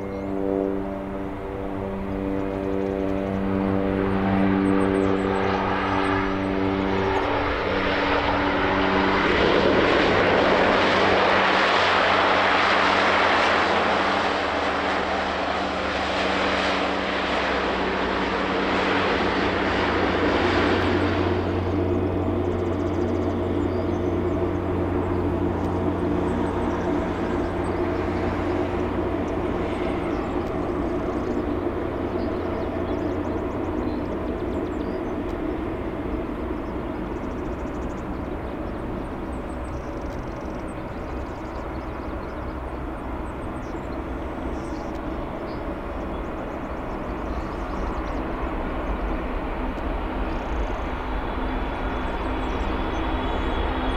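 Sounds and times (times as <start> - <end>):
jet airliner engines humming: 0.0 - 53.9.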